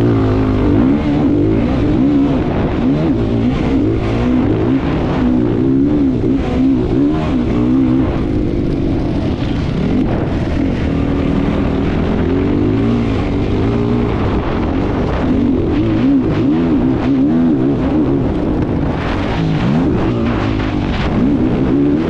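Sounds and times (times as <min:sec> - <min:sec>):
racing engine revving: 0:00.0 - 0:22.0
steady rushing noise: 0:00.0 - 0:22.0.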